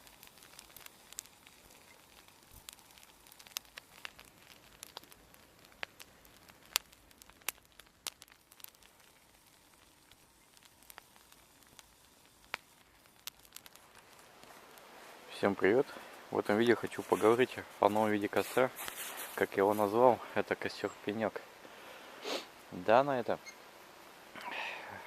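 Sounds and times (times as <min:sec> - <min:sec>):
faint fire hiss: 0:00.0 - 0:25.0
wood fire crackling: 0:00.0 - 0:25.0.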